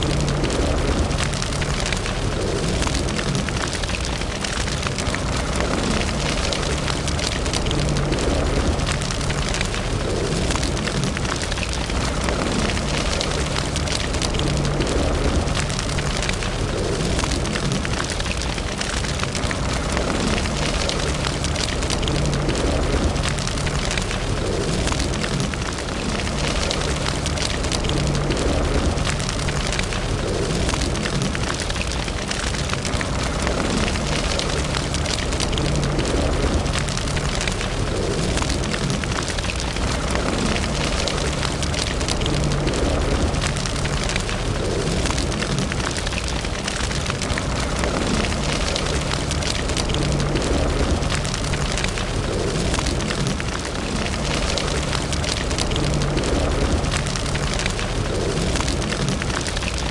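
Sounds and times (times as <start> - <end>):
fire roaring: 0.0 - 59.9
wood crackling and popping: 0.0 - 59.9.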